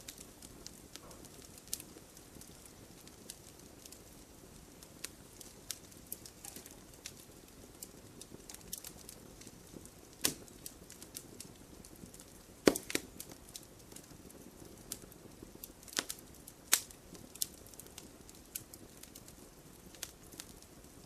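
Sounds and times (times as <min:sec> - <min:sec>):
sharp pops from fire: 0:00.0 - 0:21.0
wood fire crackling: 0:00.0 - 0:21.0.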